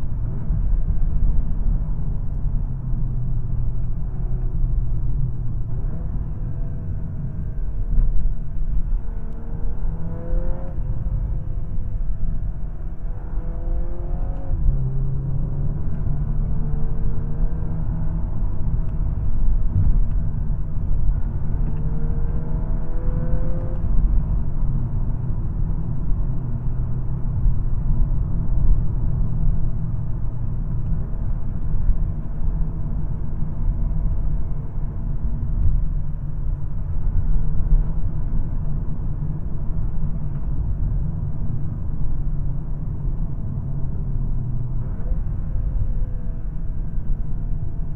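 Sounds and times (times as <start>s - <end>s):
car engine accelerating: 0.0s - 47.9s
road and tyre rumble: 0.0s - 47.9s.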